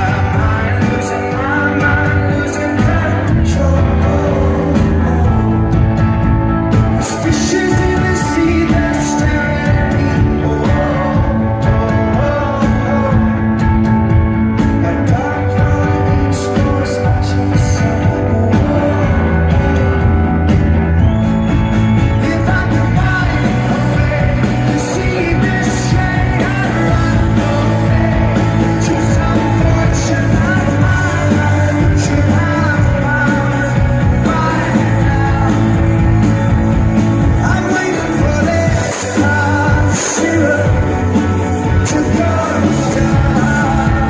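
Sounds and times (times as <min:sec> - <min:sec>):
man singing: 0:00.0 - 0:44.0
rock band playing live: 0:00.0 - 0:44.0.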